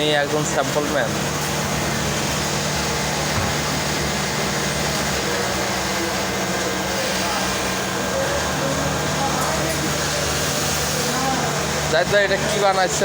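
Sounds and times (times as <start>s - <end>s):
industrial sewing machines running: 0.0s - 13.0s.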